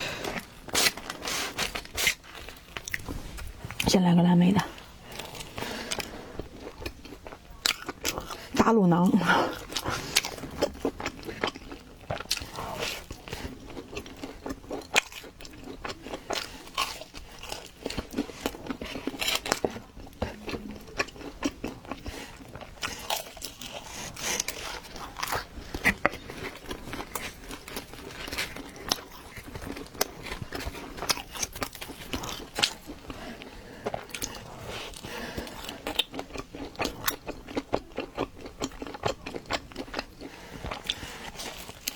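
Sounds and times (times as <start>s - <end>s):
biting and chewing pizza: 0.0s - 3.9s, 4.7s - 41.9s.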